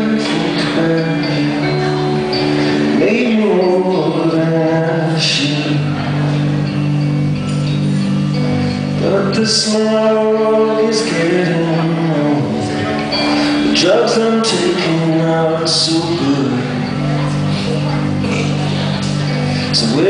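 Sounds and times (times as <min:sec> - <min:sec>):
man singing: 0:00.0 - 0:07.0, 0:08.8 - 0:20.0
strummed electric guitar: 0:00.0 - 0:20.0.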